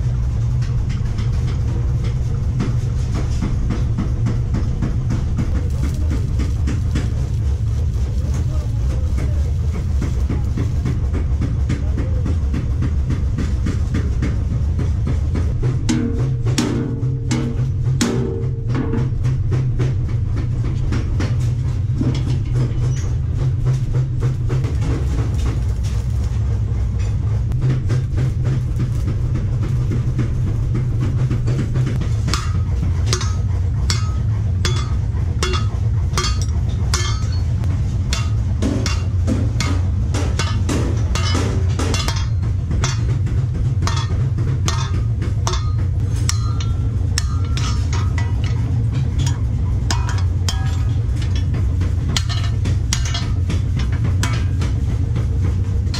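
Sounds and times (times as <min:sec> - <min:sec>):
steady low rumble: 0:00.0 - 0:55.9
hammers striking steel on anvil: 0:09.1 - 0:25.6, 0:27.0 - 0:55.9.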